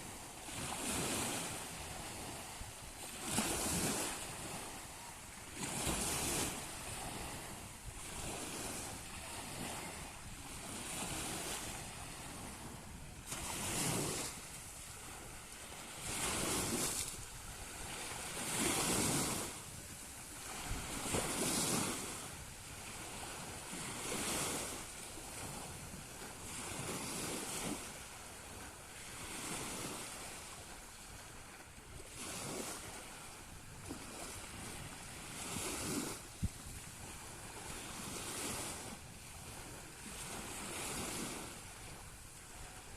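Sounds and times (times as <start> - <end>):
small waves washing onto shore: 0.0 - 42.9
wind noise on microphone: 0.0 - 42.9.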